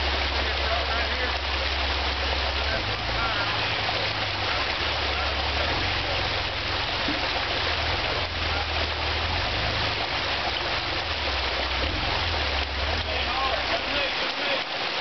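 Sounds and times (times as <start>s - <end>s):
engine running at low revs: 0.0s - 14.1s
running water rushing: 0.0s - 15.0s.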